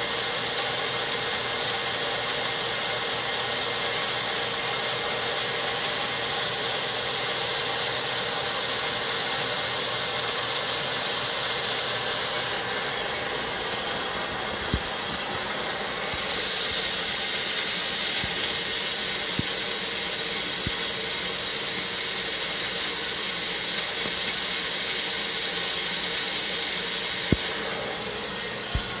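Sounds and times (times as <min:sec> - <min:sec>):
machinery humming with high hiss: 0:00.0 - 0:29.0.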